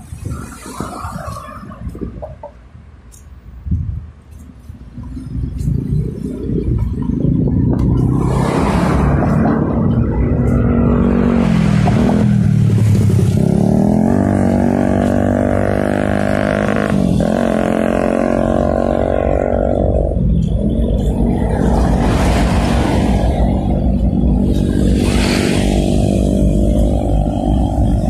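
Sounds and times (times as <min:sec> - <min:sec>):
road noise rumble: 0:00.0 - 0:28.0.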